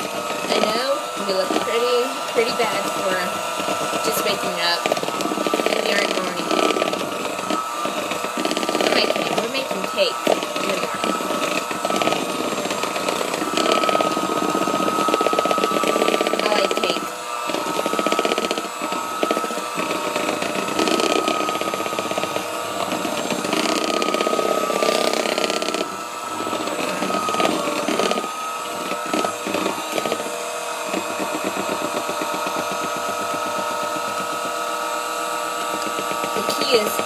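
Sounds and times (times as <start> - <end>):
batter churning: 0.0 - 37.0
electric mixer whine: 0.0 - 37.0.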